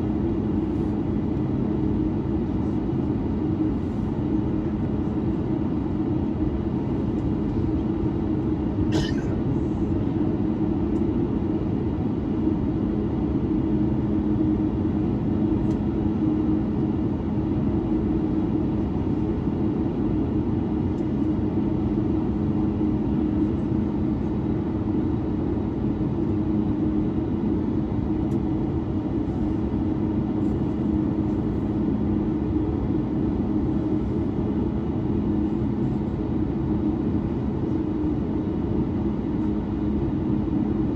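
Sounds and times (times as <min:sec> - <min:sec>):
airplane cabin drone: 0:00.0 - 0:40.9.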